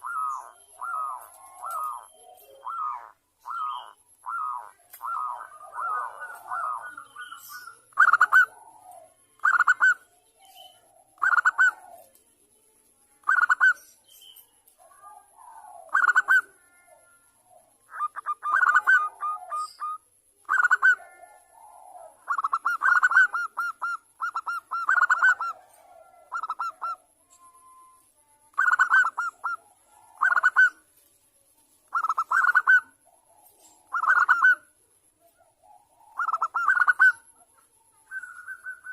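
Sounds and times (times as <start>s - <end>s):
dove cooing: 0.0s - 12.2s, 13.2s - 13.8s, 14.8s - 30.9s, 31.9s - 38.9s.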